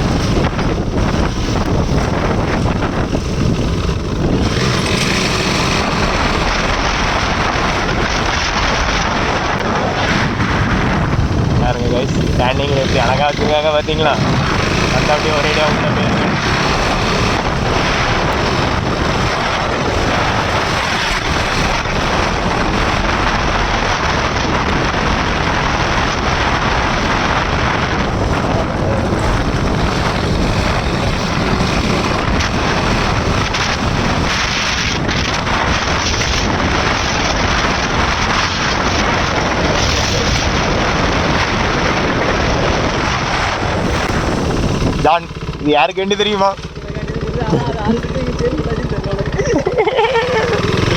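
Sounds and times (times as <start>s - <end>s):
wind rush on microphone: 0.0s - 50.9s.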